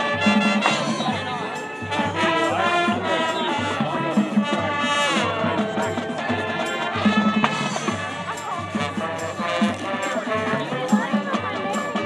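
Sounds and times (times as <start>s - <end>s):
brass chords: 0.0s - 12.0s.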